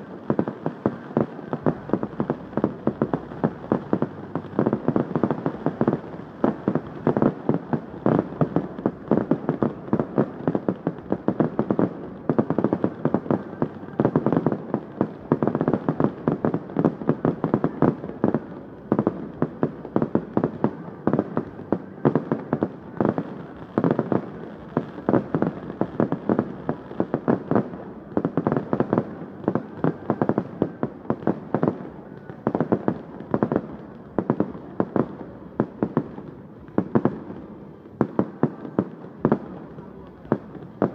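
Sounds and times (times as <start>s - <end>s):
fireworks bangs and pops: 0.0s - 40.9s
rumbling haze of fireworks: 0.0s - 40.9s.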